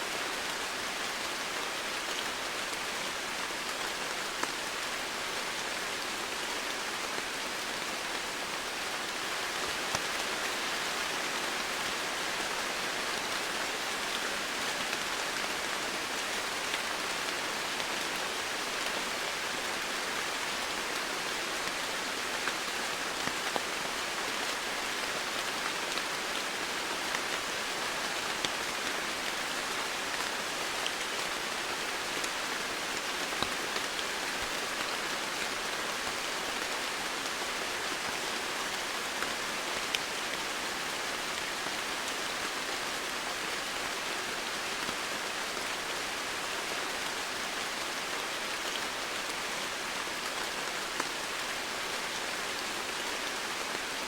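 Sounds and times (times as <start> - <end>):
steady rain hiss: 0.0 - 54.0
raindrops ticking on surfaces: 0.2 - 54.0.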